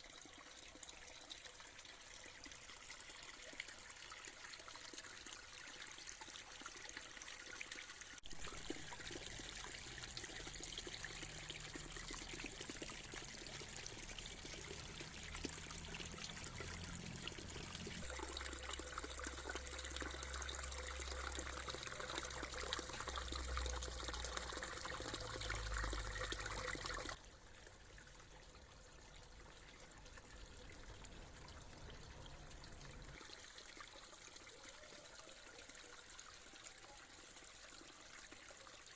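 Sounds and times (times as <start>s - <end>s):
water trickling into a pond: 0.0s - 38.9s.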